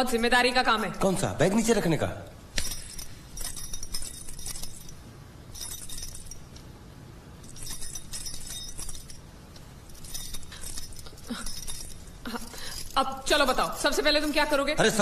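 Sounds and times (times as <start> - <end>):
low steady hum: 0.0 - 15.0
light metallic jingling: 2.4 - 15.0.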